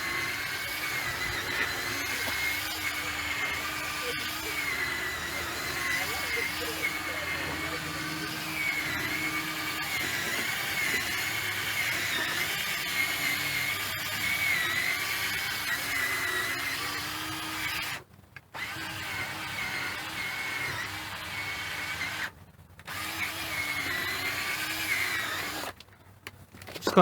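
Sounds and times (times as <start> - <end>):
cordless drill motor whine: 0.0 - 25.8.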